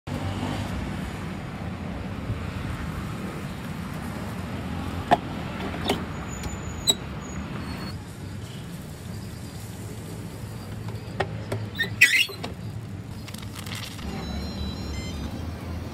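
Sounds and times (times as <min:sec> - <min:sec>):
low rumble of traffic: 0:00.1 - 0:15.9.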